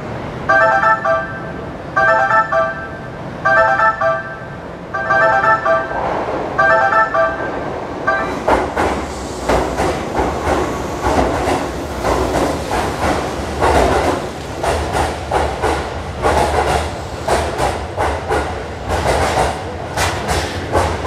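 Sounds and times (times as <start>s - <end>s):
train rumbling into station: 0.0s - 21.0s.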